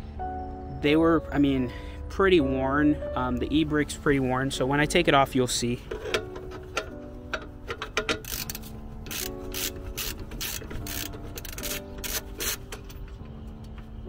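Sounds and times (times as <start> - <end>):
background music with held chords: 0.0 - 14.0.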